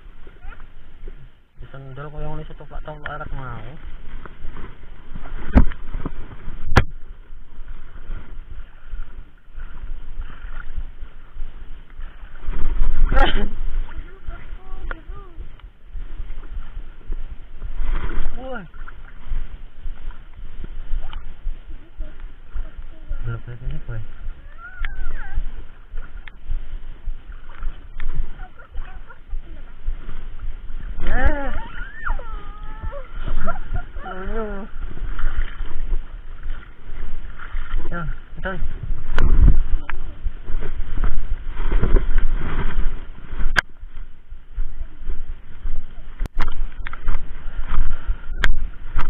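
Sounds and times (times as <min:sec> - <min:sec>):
floodwater sloshing and splashing: 0:00.0 - 0:49.0
wading through muddy water: 0:00.0 - 0:49.0.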